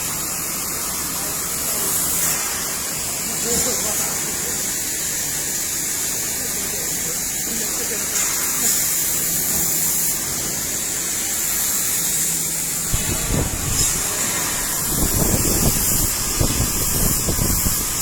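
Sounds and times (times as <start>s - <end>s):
welding machine humming with hiss: 0.0s - 18.0s
crackling of welding arc: 0.1s - 18.0s.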